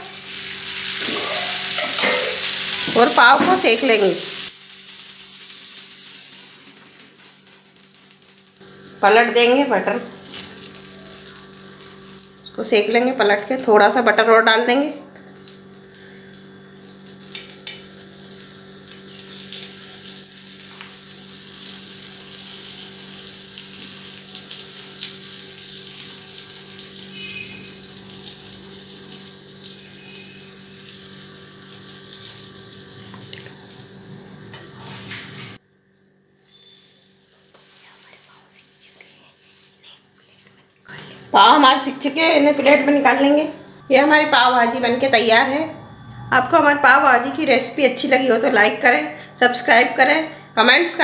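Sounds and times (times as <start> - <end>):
butter sizzling on a griddle: 0.0 - 14.2, 15.2 - 39.8, 40.4 - 43.8.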